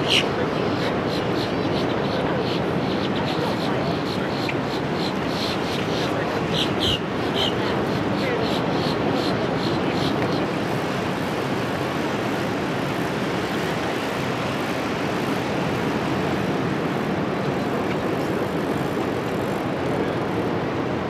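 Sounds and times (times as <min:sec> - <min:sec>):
ocean surf: 0:00.0 - 0:21.0
wind: 0:00.0 - 0:21.0.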